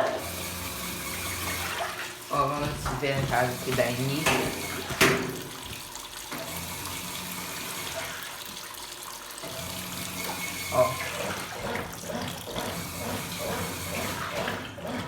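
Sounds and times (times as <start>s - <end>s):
running water filling tub: 0.0s - 15.0s
washing machine hum: 0.0s - 15.0s.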